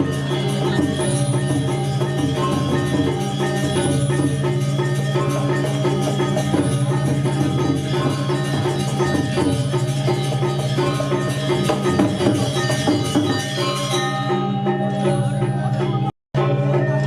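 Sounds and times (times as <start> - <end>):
gamelan playing: 0.0 - 16.1.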